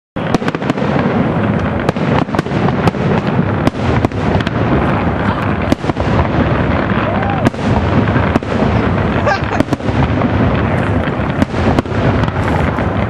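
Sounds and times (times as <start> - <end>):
dense rumble of blasts: 0.2 - 13.0
fireworks bangs and crackles: 0.2 - 13.0.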